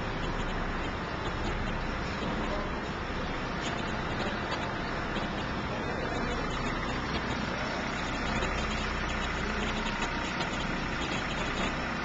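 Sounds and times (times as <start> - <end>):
concrete mixer truck engine: 0.0 - 12.0
concrete pump engine: 0.0 - 12.0.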